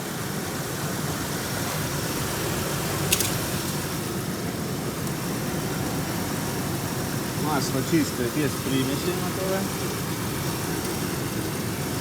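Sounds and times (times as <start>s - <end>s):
car engine idling: 0.6s - 12.0s.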